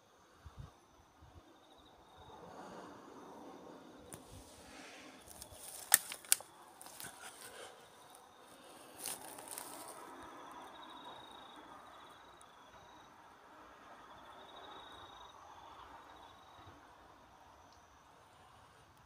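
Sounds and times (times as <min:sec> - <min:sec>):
insects trilling: 0:00.1 - 0:19.0.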